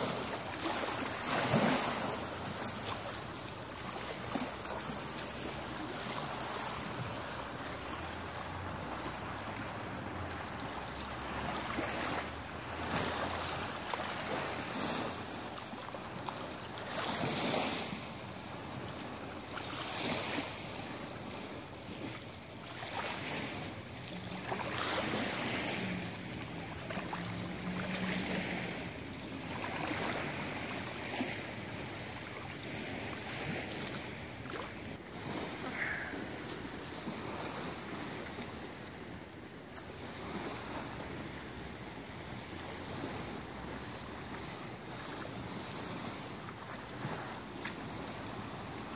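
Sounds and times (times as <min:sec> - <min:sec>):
water lapping against rocky shore: 0:00.0 - 0:48.9.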